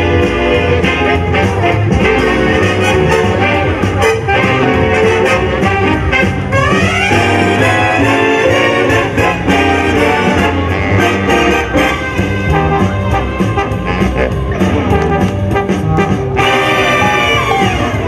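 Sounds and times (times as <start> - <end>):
jazzy brass music with beat: 0.0 - 18.0.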